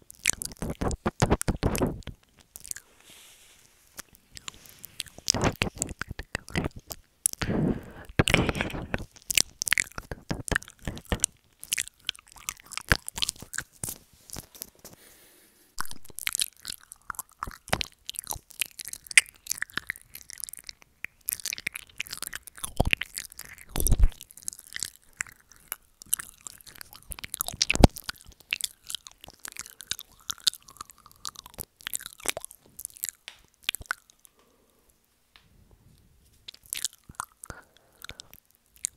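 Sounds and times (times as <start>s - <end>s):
tongue clicks: 0.0s - 2.9s, 4.0s - 13.9s, 15.8s - 34.6s, 36.5s - 38.9s
wet lip smacks: 0.1s - 2.9s, 4.0s - 14.0s, 15.8s - 34.3s.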